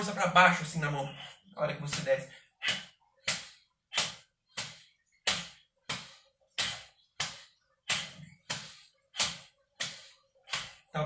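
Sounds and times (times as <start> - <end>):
hands slapping thighs: 1.8 - 11.0.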